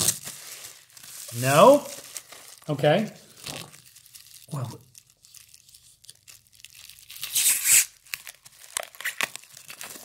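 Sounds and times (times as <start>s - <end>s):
bubble wrap crackling: 0.0s - 10.0s
bubble wrap ripping: 0.0s - 10.0s.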